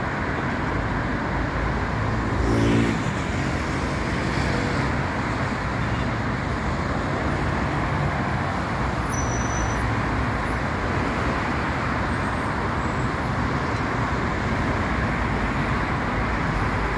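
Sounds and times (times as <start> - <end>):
road traffic noise: 0.0 - 16.9.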